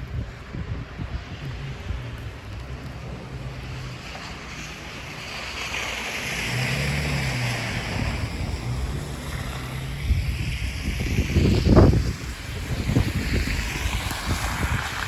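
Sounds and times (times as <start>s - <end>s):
low engine hum: 0.0s - 15.0s
wind buffeting microphone: 0.0s - 15.0s
tyre hiss on slushy street: 0.4s - 15.0s.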